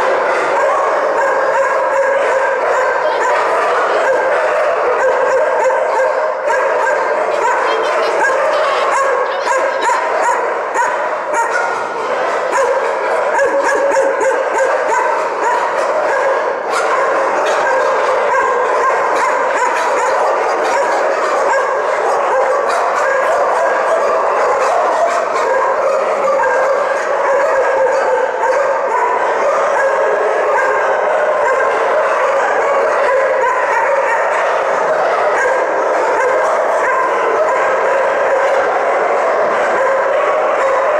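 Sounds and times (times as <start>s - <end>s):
dogs barking and whining: 0.0s - 40.9s.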